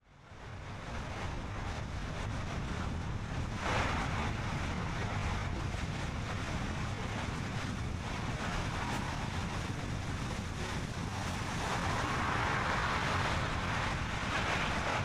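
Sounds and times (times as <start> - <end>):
wind noise: 0.1 - 15.0.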